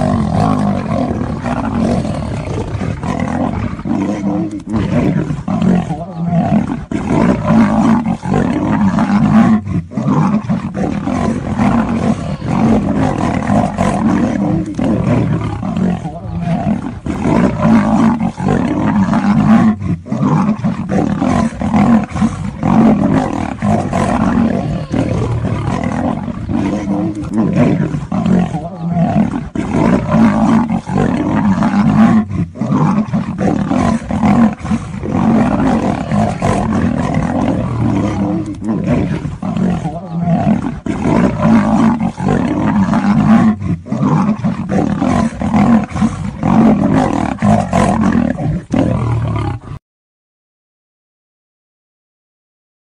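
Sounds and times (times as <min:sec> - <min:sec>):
big cats snarling and roaring: 0:00.0 - 0:49.8.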